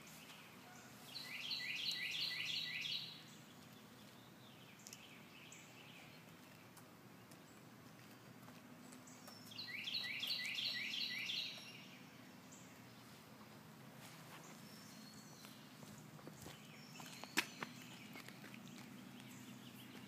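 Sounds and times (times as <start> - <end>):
outdoor background noise: 0.0 - 20.0
songbird chirping: 0.0 - 20.0.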